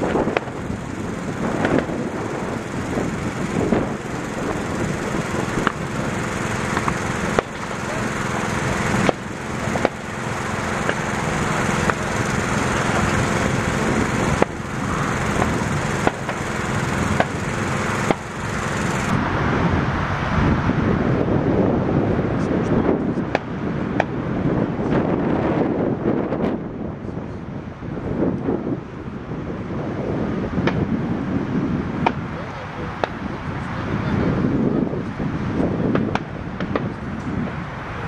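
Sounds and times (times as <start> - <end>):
pulse jet engine buzzing: 0.0 - 27.0, 27.7 - 38.0.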